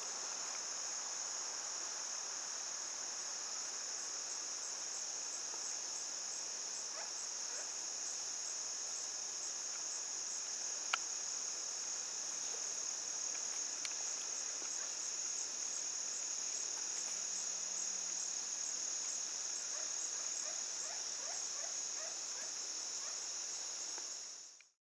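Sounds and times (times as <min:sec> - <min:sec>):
high-pitched insect chorus: 0:00.0 - 0:24.6.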